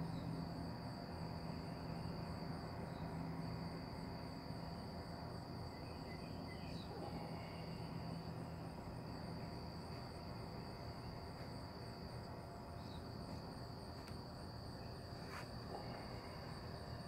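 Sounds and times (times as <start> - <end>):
high pulsing insect call: 0.0 - 17.0
insects trilling: 0.0 - 17.0.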